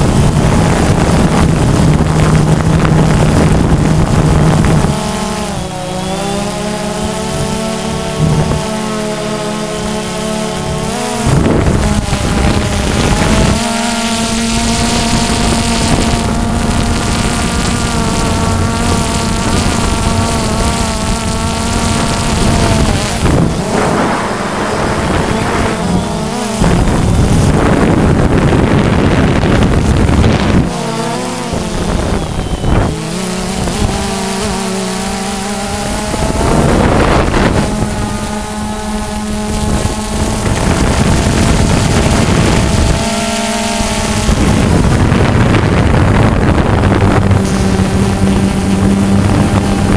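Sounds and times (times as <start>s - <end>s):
drone propellers whining: 0.0s - 49.9s
wind rushing over microphone: 0.0s - 49.9s.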